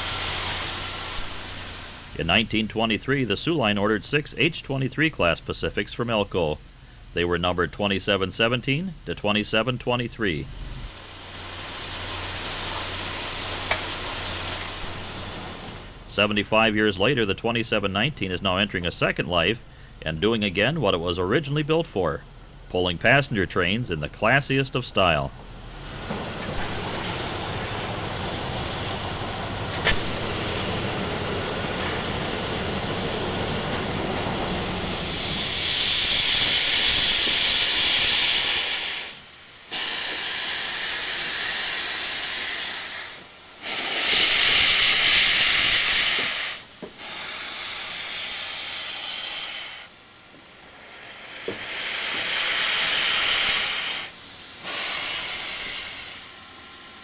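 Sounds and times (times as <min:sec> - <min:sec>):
steam hissing: 0:00.0 - 0:08.6, 0:09.5 - 0:21.8, 0:22.4 - 0:57.0
loud steam blasts: 0:00.0 - 0:57.0.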